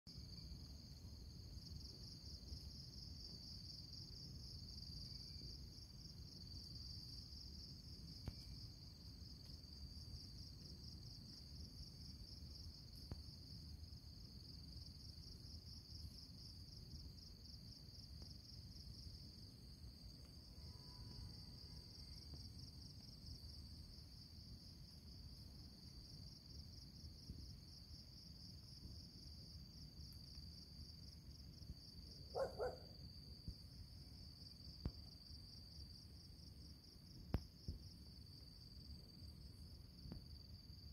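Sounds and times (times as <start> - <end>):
insects chirring: 0.1 - 40.9.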